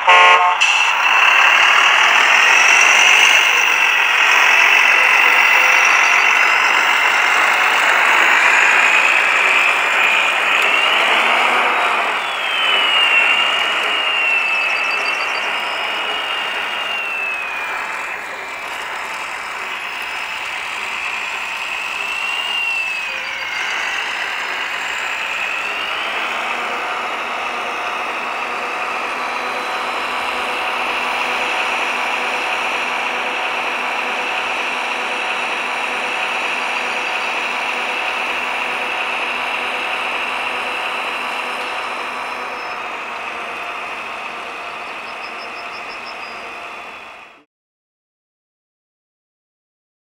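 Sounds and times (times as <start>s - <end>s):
hydraulic machine whine: 0.0s - 47.5s.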